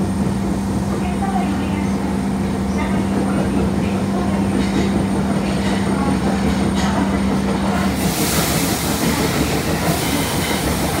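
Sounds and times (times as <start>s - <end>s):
subway car low hum: 0.0s - 11.0s.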